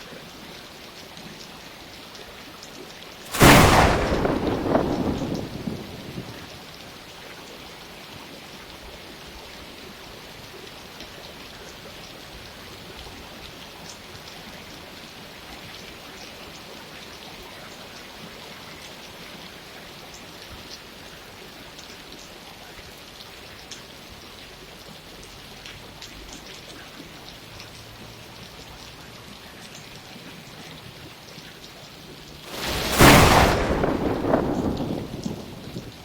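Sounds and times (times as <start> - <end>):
raindrops pattering on surfaces: 0.0 - 36.0
steady rain hissing: 0.0 - 36.0.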